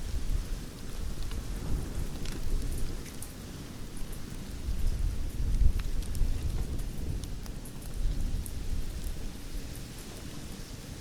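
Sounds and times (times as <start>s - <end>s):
campfire popping and snapping: 0.0s - 10.7s
low rumble of burning: 0.0s - 11.0s.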